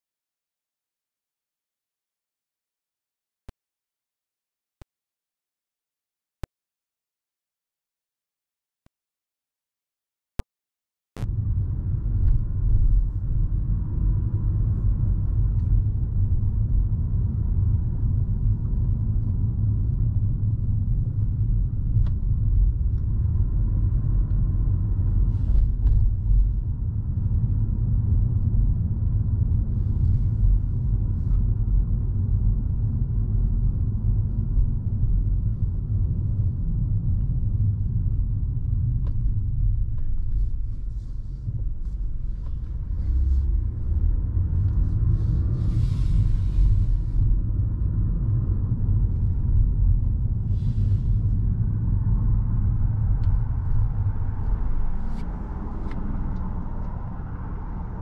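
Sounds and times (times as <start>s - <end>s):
car road rumble: 11.2s - 58.0s.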